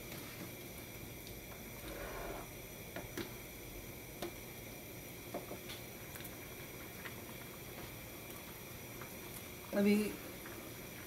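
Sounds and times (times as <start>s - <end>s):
water bubbling in a pan: 0.0s - 11.0s.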